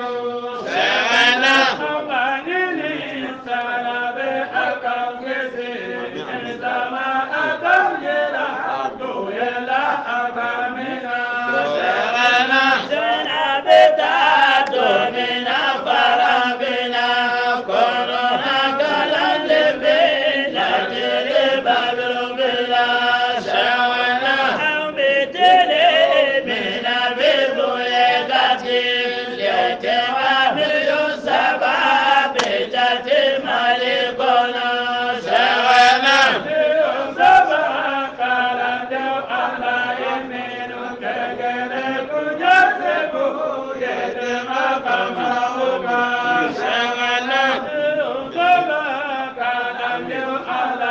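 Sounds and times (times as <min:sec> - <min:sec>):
person chanting devotional poem: 0:00.0 - 0:50.9.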